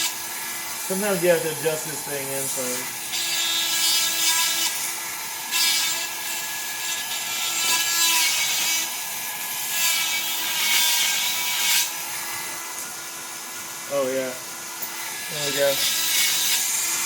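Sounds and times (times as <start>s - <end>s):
small electric motor running: 0.0s - 17.0s.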